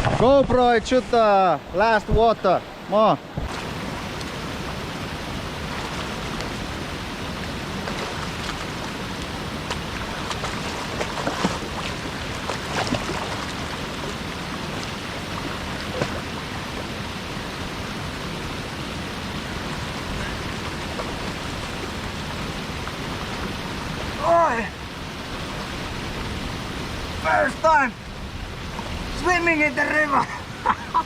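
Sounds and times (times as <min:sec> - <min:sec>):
water splashes: 0:00.0 - 0:31.0
waterfall rushing: 0:00.0 - 0:31.0.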